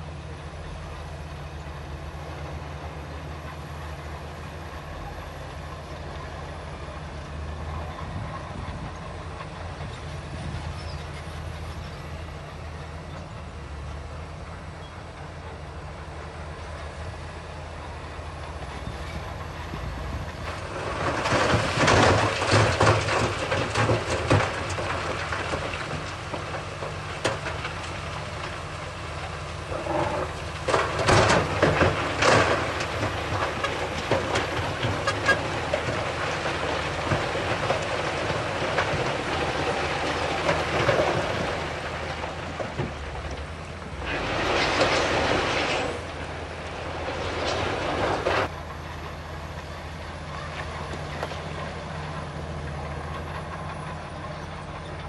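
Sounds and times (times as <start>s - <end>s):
diesel engine running: 0.0s - 55.0s
tracks clanking and rattling: 1.5s - 17.1s, 18.2s - 55.0s.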